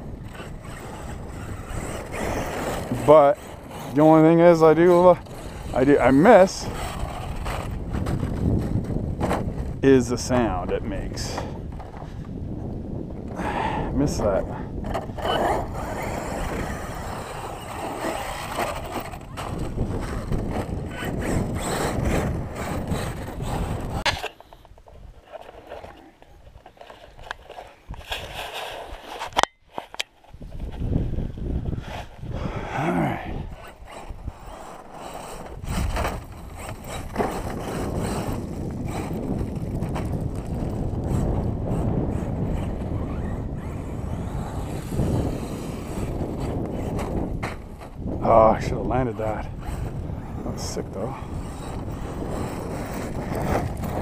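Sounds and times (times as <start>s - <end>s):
toy truck motor and tyres on gravel: 0.0s - 54.0s
wind rumbling on microphone: 0.0s - 54.0s.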